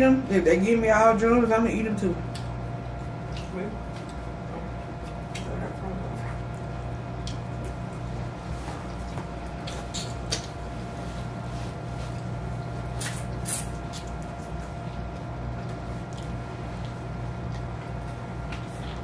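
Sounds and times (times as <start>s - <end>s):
steady low hum: 0.0s - 19.0s
chewing and mouth sounds: 2.3s - 11.0s, 11.8s - 19.0s.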